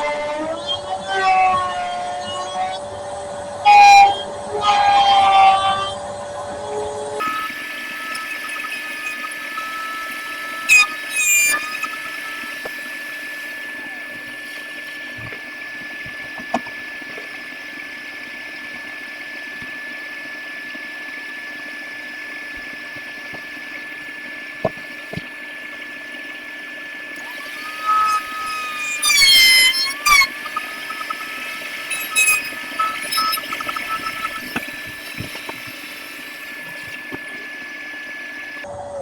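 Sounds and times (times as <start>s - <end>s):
electric router whining: 7.2s - 38.7s.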